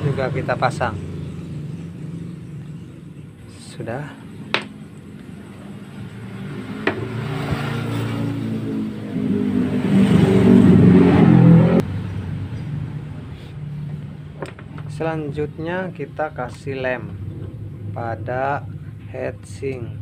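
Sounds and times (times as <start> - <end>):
vehicle engine revving: 0.0 - 19.1.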